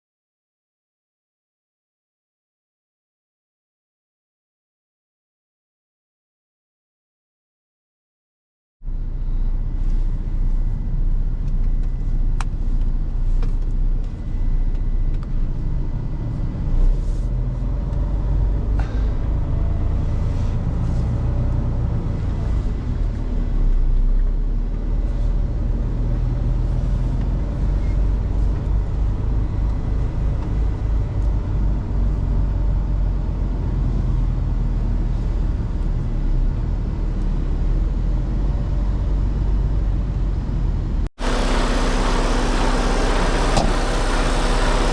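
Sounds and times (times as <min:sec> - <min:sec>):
heavy truck engine rumbling: 0:08.8 - 0:44.9.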